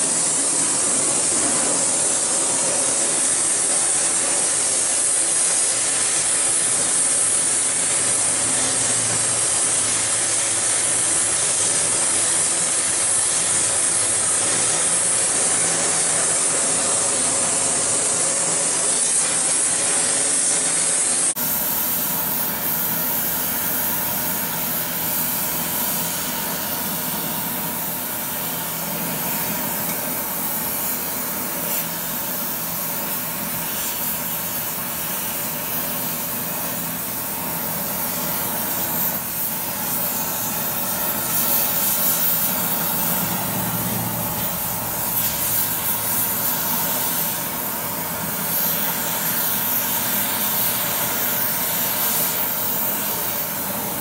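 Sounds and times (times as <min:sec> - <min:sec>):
torch flame hissing: 0:00.0 - 0:54.0.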